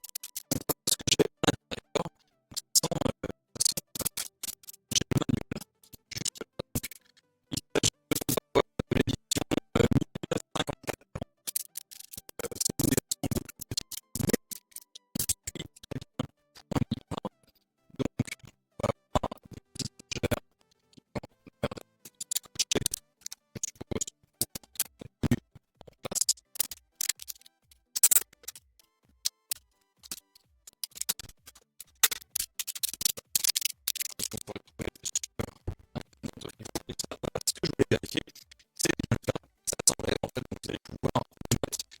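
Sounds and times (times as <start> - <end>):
music with choppy percussive beat: 0.0 - 17.4, 18.0 - 42.0.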